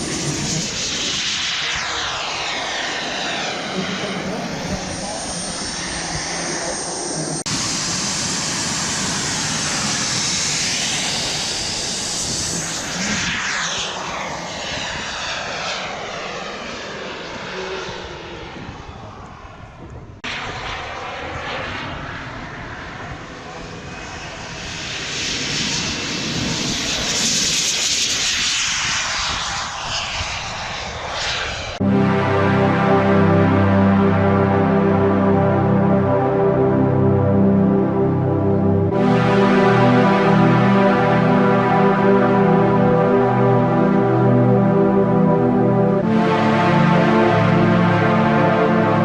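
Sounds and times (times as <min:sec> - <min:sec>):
model airliner engine flying past: 0:00.0 - 0:49.0.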